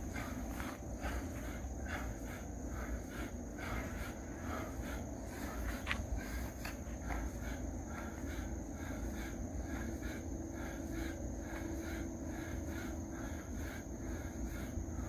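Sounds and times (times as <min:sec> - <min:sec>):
person breathing rhythmically: 0:00.0 - 0:15.0.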